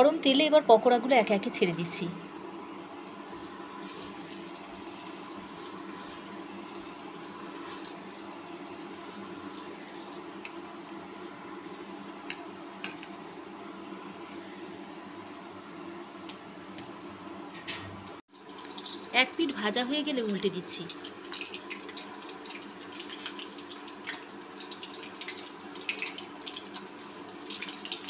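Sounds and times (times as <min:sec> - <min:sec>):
food deep-frying in oil: 0:01.2 - 0:28.0.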